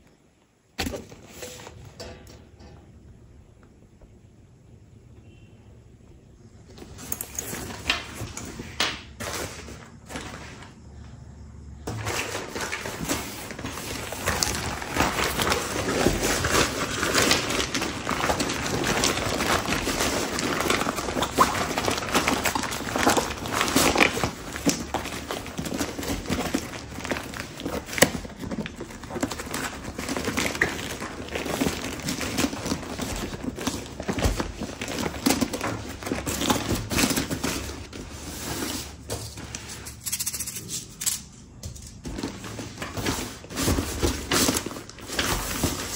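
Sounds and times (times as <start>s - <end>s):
plastic packaging crinkling: 6.7s - 11.0s, 11.9s - 45.9s.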